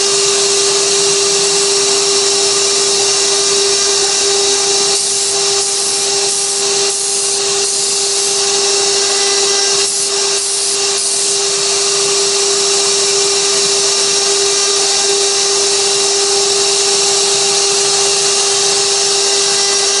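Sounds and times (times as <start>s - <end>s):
bit cutting wood hiss: 0.0s - 20.0s
router spindle whine: 0.0s - 20.0s.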